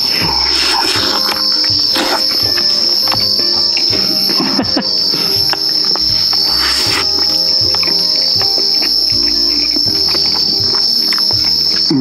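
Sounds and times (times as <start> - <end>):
crickets chirping: 0.0 - 12.0
person eating: 0.0 - 12.0.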